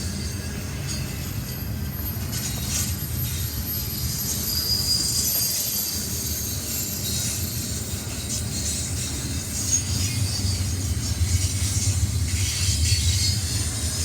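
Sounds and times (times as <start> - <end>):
high wheel squeal: 0.0 - 11.4
train rumbling past: 0.0 - 14.0.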